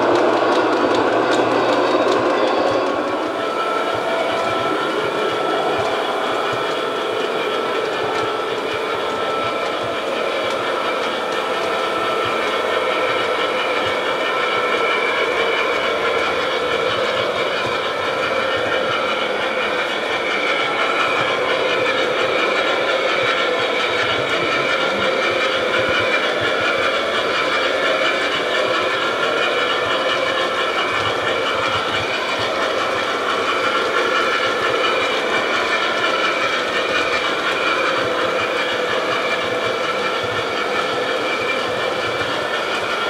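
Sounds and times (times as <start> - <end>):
model train motors whirring: 0.0 - 43.0
wheels rolling on track: 0.0 - 43.0.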